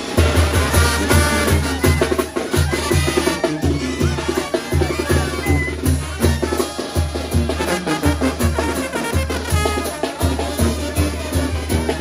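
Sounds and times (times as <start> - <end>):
brass band playing: 0.0 - 12.0
snare drums and cymbal: 0.0 - 12.0
tuba and bass drum pulse: 0.0 - 12.0.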